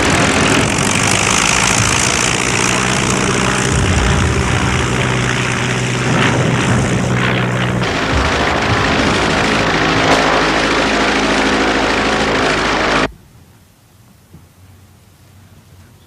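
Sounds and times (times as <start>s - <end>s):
propeller aeroplane engine droning: 0.0s - 16.0s.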